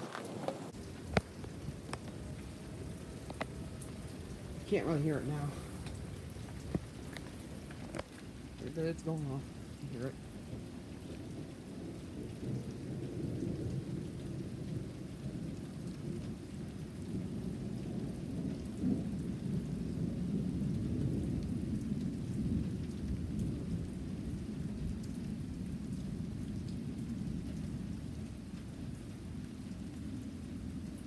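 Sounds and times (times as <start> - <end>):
low rumble of thunder: 0.0 - 31.0
rain falling: 0.0 - 31.0.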